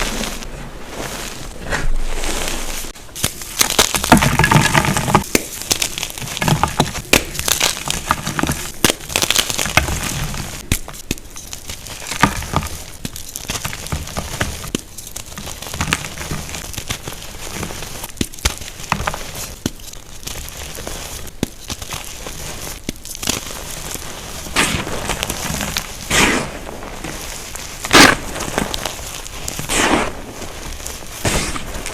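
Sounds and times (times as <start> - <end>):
louder crunches: 0.0 - 31.9
chalk blocks being crushed: 3.1 - 31.9.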